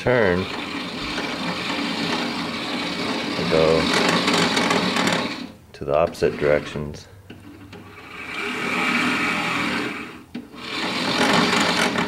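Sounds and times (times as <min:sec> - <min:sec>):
toy bulldozer motors whirring: 0:00.0 - 0:12.0.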